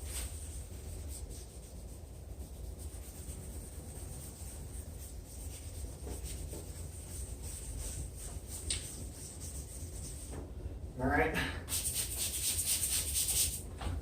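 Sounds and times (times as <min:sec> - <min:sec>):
sanding sponge rubbing plastic: 0:00.0 - 0:10.4, 0:11.7 - 0:13.6.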